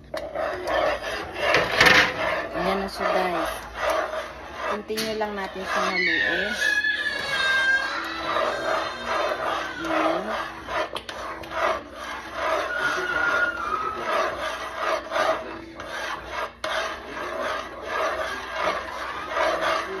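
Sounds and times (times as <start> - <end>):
utensil scraping and stirring in a pot: 0.0 - 20.0.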